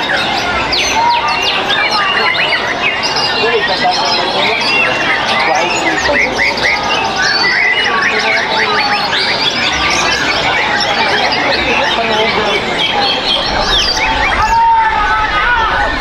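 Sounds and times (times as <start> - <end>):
birds singing whistles and trills: 0.0 - 14.6.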